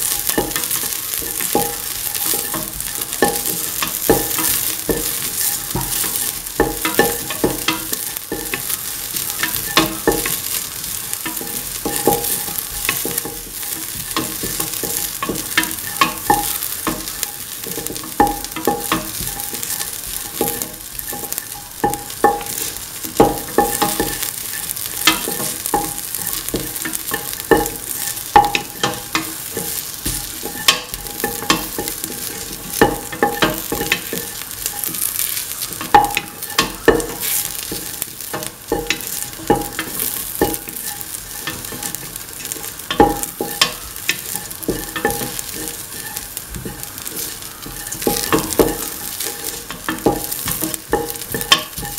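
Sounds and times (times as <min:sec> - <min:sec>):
onions sizzling in oil: 0:00.0 - 0:51.9
spatula scraping metal pan: 0:00.0 - 0:51.9.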